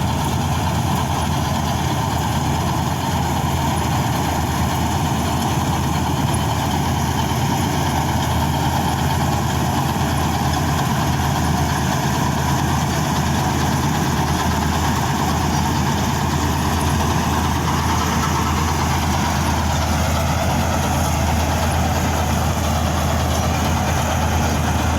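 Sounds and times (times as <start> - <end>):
combine harvester engine running: 0.0 - 24.9.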